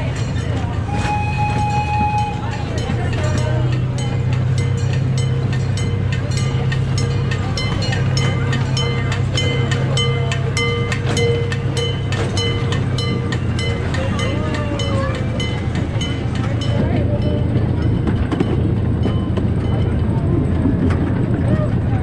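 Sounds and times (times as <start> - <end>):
ride-on train rumbling: 0.0 - 22.0
wheels clicking on rails: 0.0 - 22.0.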